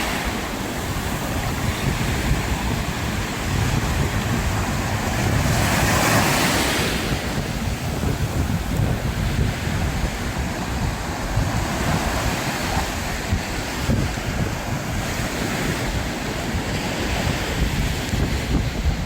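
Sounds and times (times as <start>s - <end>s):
sea waves breaking: 0.0s - 19.0s
wind buffeting microphone: 0.0s - 19.0s.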